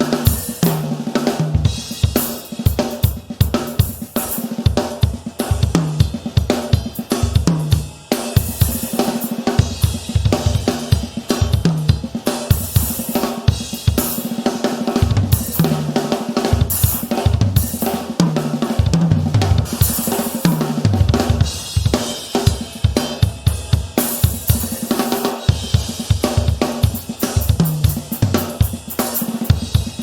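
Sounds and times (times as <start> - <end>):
snare and bass drum: 0.0 - 30.0.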